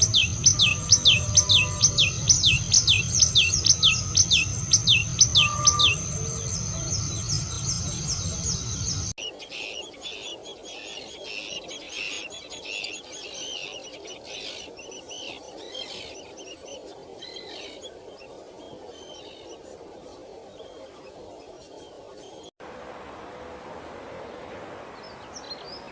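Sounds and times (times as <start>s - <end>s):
small birds chirping: 0.0s - 22.5s, 24.3s - 25.9s
low background noise: 0.0s - 25.9s.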